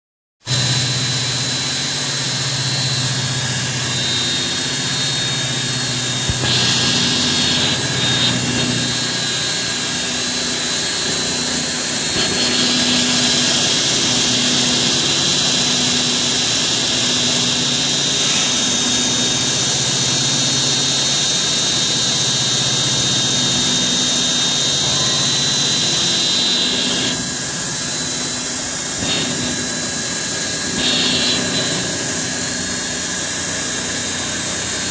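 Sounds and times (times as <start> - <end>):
bead mill whirring: 0.5 - 34.9.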